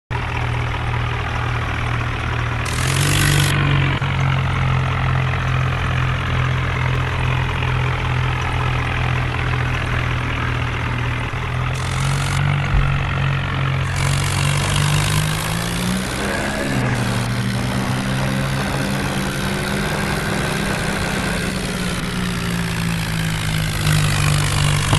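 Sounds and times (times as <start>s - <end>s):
tractor diesel engine revving: 0.1s - 24.9s.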